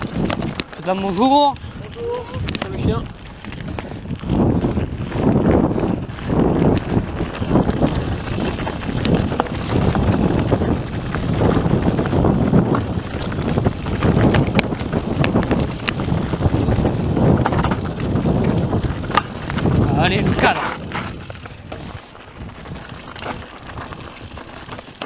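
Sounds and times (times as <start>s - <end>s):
bike clicks and rattles: 0.0s - 25.0s
tyres rumbling over gravel: 0.0s - 25.0s
wind rushing over microphone: 0.0s - 25.0s.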